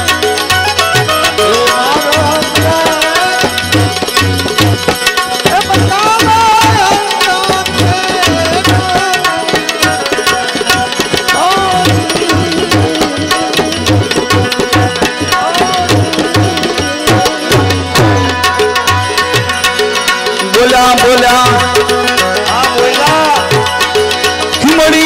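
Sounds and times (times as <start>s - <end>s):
hand drums beat: 0.0s - 25.0s
sliding instrumental melody: 0.0s - 25.0s.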